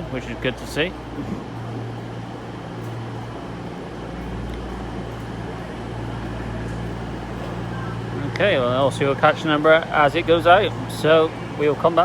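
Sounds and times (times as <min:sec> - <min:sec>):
train diesel engines droning: 0:00.0 - 0:12.0.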